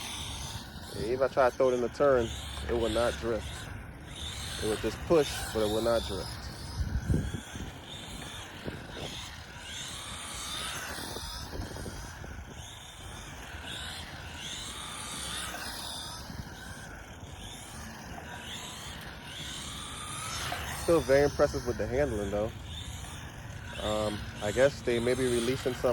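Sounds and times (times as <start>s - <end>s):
rc car electric motor whining: 0.0s - 25.9s.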